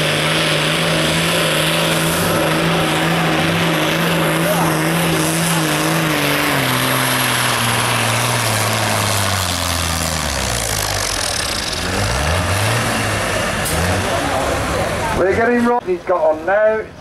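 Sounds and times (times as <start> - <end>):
tractor diesel engine straining: 0.0 - 17.0.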